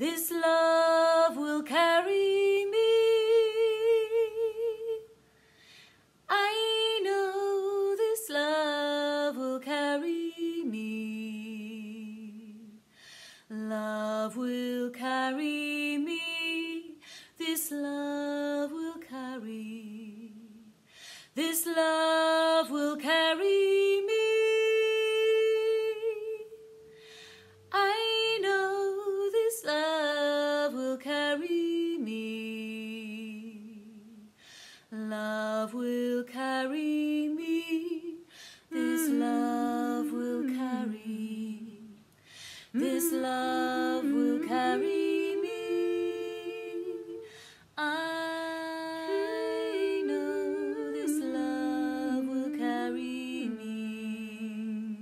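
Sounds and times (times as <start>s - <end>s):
women singing in harmony: 0.0s - 5.1s, 6.3s - 12.8s, 13.5s - 20.6s, 21.4s - 33.9s, 35.0s - 42.0s, 42.7s - 55.0s.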